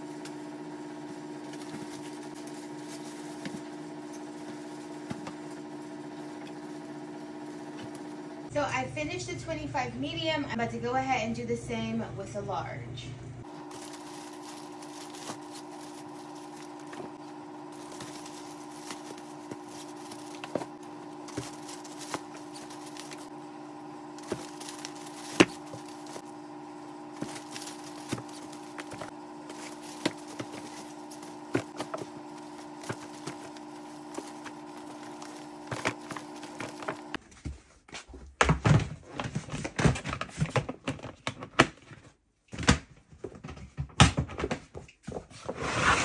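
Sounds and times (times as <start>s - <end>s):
steady electrical hum: 0.0s - 37.2s.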